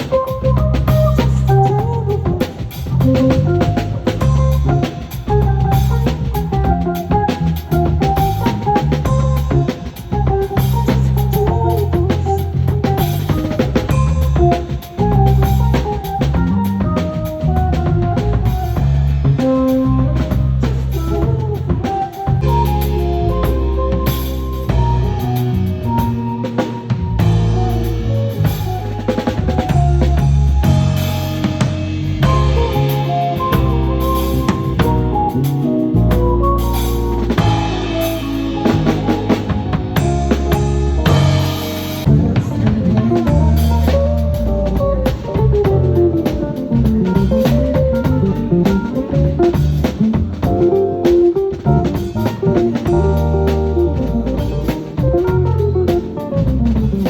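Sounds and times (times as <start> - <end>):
bass line: 0.0 - 57.0
drum kit beat: 0.0 - 57.0
guitar: 0.0 - 57.0
instrumental melody line: 0.0 - 57.0
sustained keyboard notes: 0.0 - 57.0.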